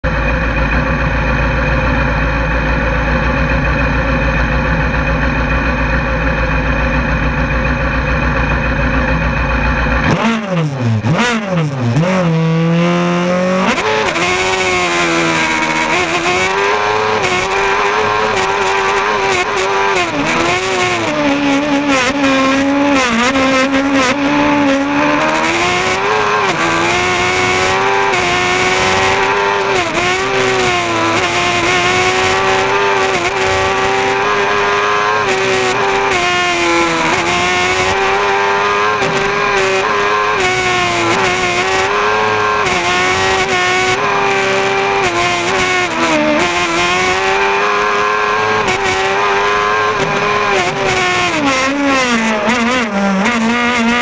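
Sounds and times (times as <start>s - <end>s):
racing car engine revving: 0.0s - 54.0s.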